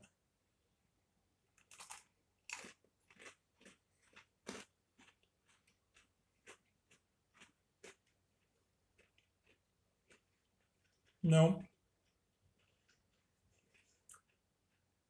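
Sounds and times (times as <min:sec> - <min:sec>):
cookie being bitten and chewed: 0:01.5 - 0:15.0.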